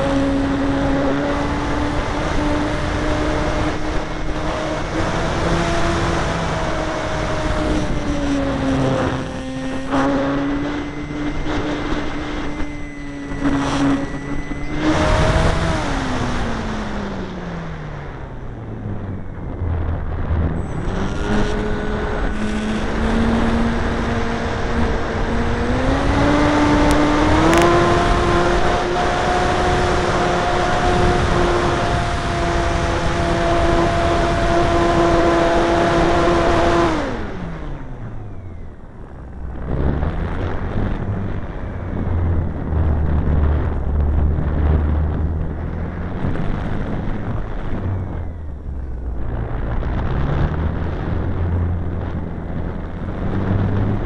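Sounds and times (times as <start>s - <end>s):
model airplane motor whining: 0.0s - 51.6s
rushing wind: 0.0s - 54.0s.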